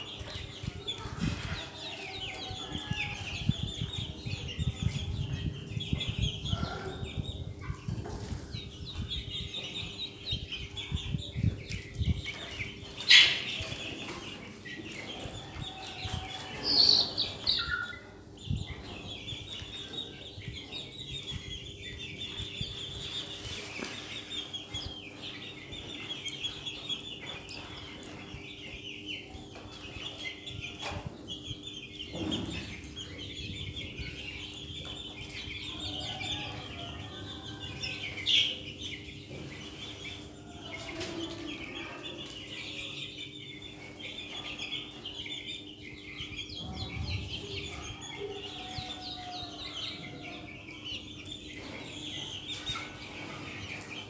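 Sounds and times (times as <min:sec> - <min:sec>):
chicks peeping and clucking: 0:00.0 - 0:54.0.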